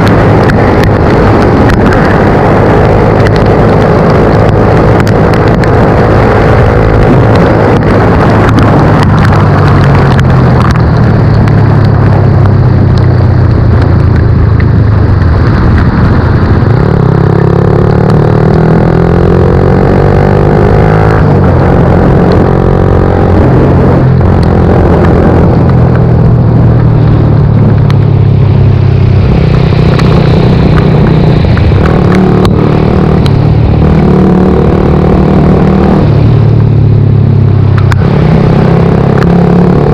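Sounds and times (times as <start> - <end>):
loud steady noise: 0.0 - 39.9
motorcycle engine revving: 0.0 - 39.9.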